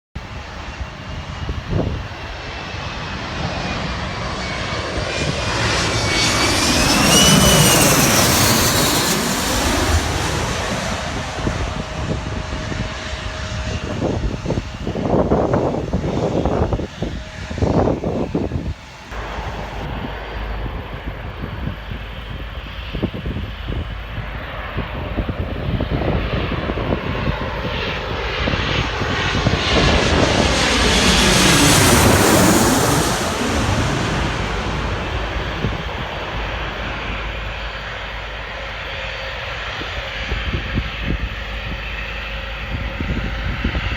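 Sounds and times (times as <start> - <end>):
airliner engine roar: 0.1 - 43.9
high turbine whine: 0.3 - 43.9
wind buffeting microphone: 0.3 - 43.9.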